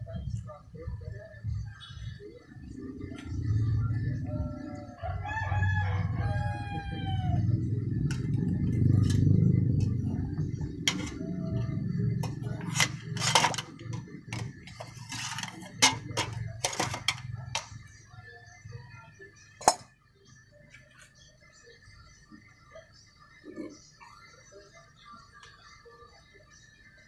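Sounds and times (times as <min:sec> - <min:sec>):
low droning hum: 0:00.0 - 0:25.2.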